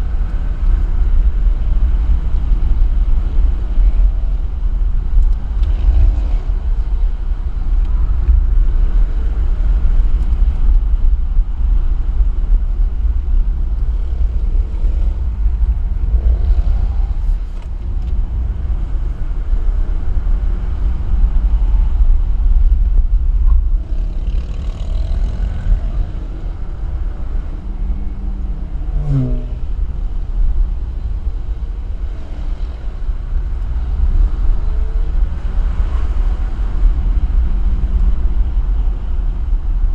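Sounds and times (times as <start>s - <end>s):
road and wind noise: 0.0s - 39.9s
vehicle engine: 0.0s - 39.9s.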